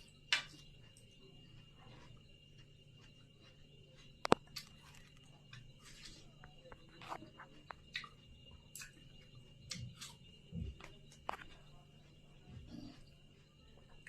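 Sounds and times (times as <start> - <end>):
chewing and wet mouth sounds: 0.0 - 14.0.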